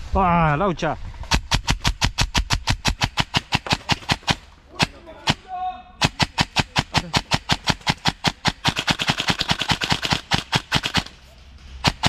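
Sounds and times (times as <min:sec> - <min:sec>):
airsoft guns firing: 0:01.2 - 0:12.0.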